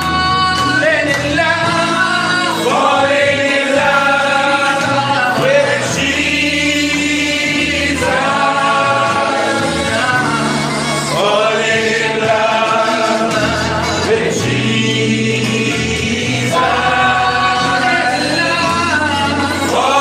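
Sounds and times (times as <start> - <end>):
lead singer on microphone: 0.0 - 20.0
women's group singing gospel: 0.0 - 20.0.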